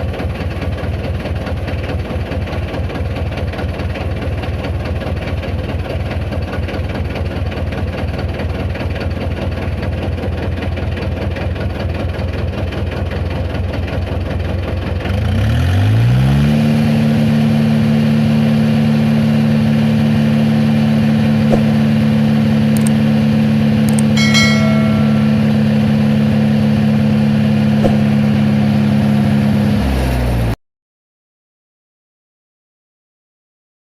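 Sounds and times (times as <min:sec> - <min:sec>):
tractor engine idling and revving: 0:00.0 - 0:24.2, 0:25.4 - 0:30.6.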